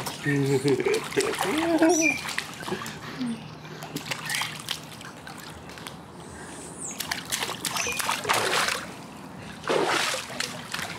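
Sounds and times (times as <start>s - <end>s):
pool water splashing: 0.0s - 6.2s, 6.9s - 10.9s.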